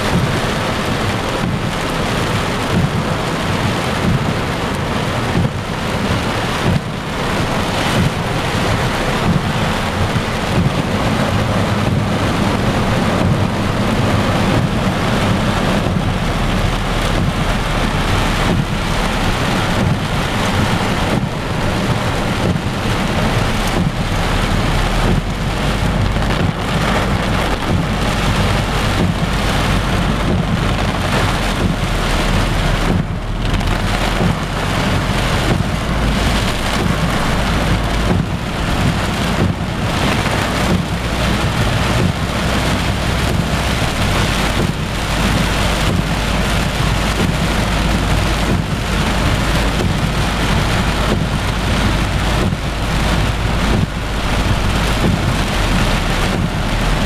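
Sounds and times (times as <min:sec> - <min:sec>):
heavy rain drumming on car roof: 0:00.0 - 0:57.0
steady low rumble: 0:00.0 - 0:57.0.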